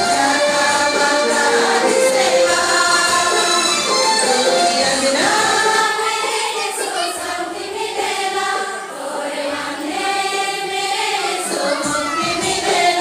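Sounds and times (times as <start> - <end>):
women singing in unison: 0.0 - 13.0.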